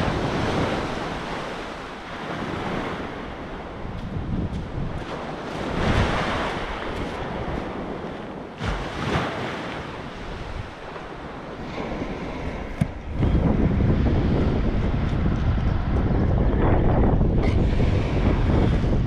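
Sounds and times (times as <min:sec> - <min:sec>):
waves breaking on beach: 0:00.0 - 0:15.9, 0:17.4 - 0:19.0
wind buffeting microphone: 0:00.0 - 0:19.0.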